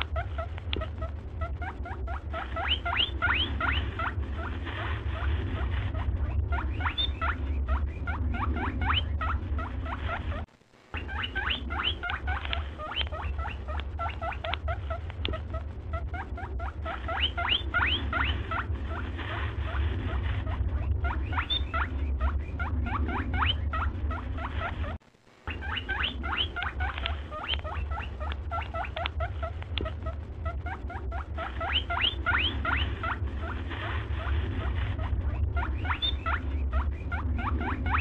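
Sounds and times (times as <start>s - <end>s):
yarn squeaking on crochet hook: 0.0s - 5.7s, 6.6s - 19.9s, 21.0s - 38.0s
steady low hum: 0.0s - 38.0s.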